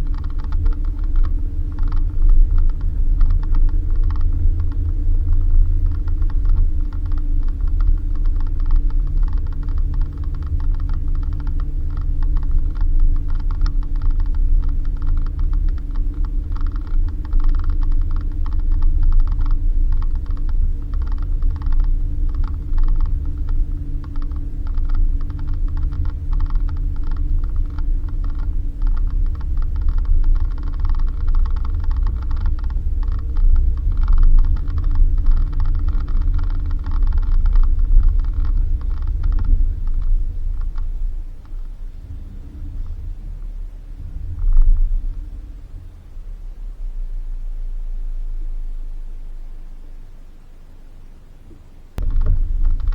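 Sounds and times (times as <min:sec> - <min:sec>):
car body rattling and creaking: 0:00.0 - 0:42.0, 0:52.0 - 0:52.9
car engine hum: 0:00.0 - 0:52.9
low road rumble: 0:00.0 - 0:52.9.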